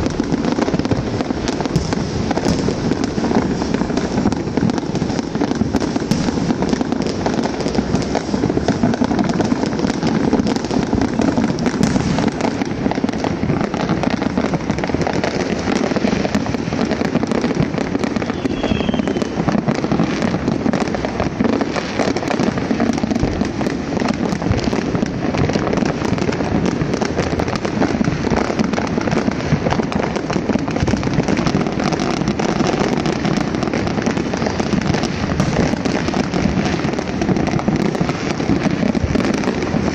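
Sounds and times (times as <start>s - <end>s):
fireworks crackling and popping: 0.0s - 39.9s.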